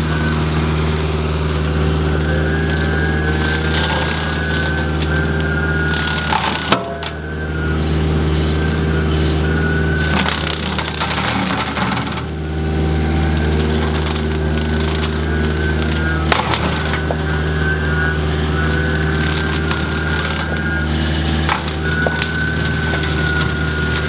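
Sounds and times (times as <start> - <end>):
brush crushing and splintering: 0.0 - 24.0
brush snapping and cracking: 0.0 - 24.0
excavator diesel engine running: 0.0 - 24.0.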